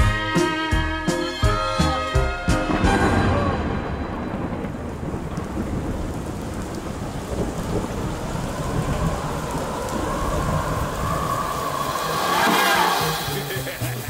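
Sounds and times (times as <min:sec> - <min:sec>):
rain: 0:00.0 - 0:14.0
thunder rumble: 0:02.5 - 0:14.0.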